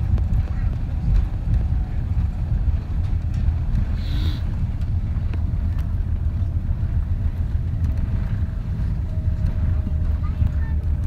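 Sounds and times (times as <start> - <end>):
low rumble inside aircraft cabin: 0.0 - 11.0.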